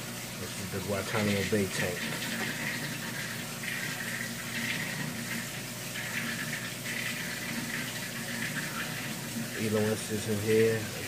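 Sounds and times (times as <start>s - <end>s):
aquarium water bubbling: 0.0s - 11.0s.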